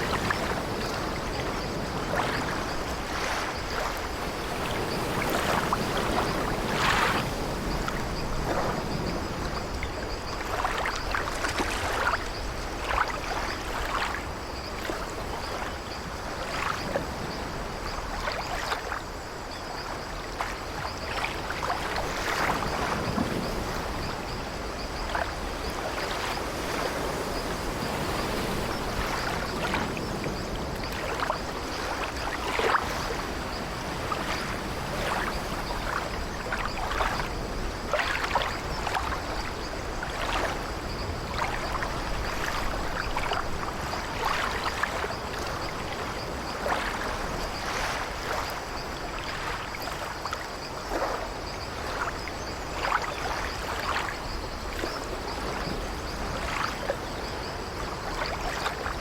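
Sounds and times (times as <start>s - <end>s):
sea waves splashing against ship: 0.0s - 59.0s.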